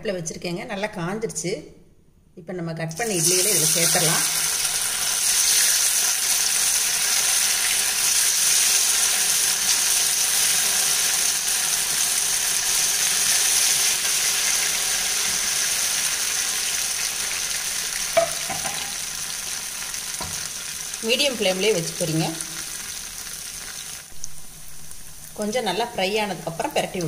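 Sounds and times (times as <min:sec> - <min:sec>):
food sizzling in hot oil: 0:03.0 - 0:27.0.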